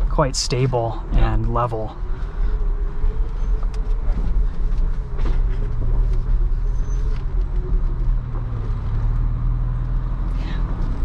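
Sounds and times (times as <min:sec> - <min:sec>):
low engine and tyre rumble: 0:00.0 - 0:11.0.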